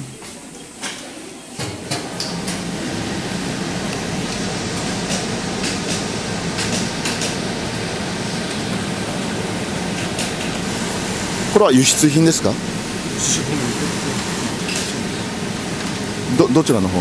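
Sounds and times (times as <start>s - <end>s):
factory machinery din: 0.0s - 17.0s.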